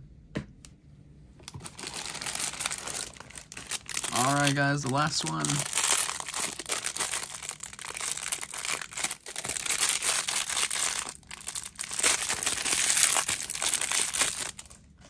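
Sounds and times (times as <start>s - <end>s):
plastic bag crinkling and tearing: 1.4s - 15.0s.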